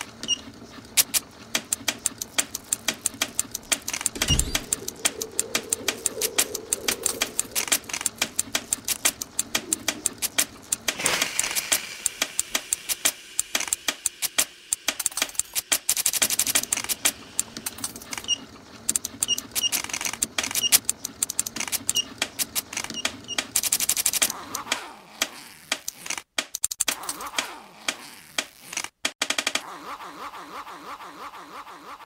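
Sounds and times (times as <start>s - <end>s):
rapid clicking and rattling: 0.2s - 24.4s, 25.7s - 27.3s, 28.4s - 29.6s.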